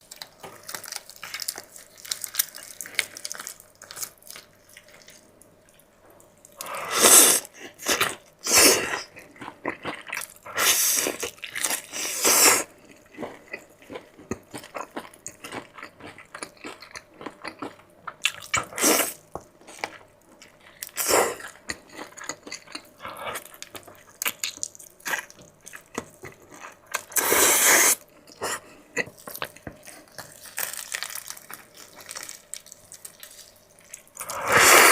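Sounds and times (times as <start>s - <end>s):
person chewing food: 0.0s - 34.9s.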